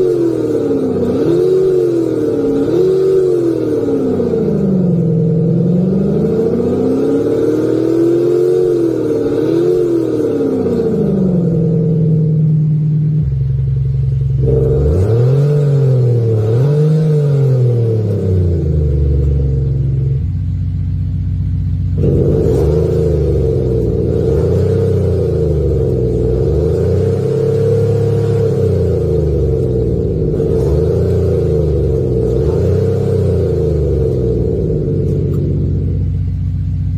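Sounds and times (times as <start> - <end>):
car engine rev blips: 0.0 - 36.9.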